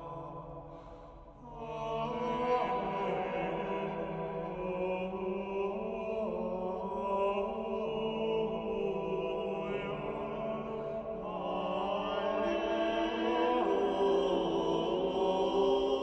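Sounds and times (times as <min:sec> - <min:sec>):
vocal ensemble chanting: 0:00.0 - 0:16.0.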